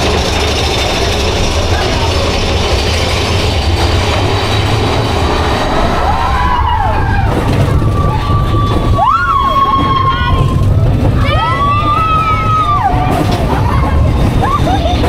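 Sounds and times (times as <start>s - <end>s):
rising and falling pitched tones: 0.0s - 13.0s
roller coaster rumbling on track: 0.0s - 15.0s.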